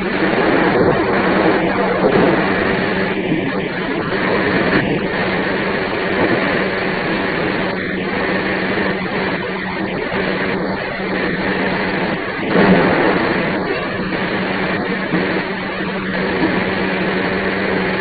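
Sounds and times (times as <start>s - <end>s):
loud rush: 0.0s - 18.0s
low hum: 0.0s - 18.0s.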